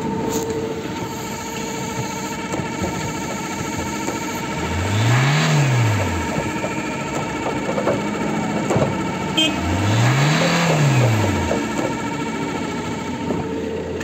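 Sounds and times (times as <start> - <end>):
diesel engine idling and revving: 0.0 - 14.0.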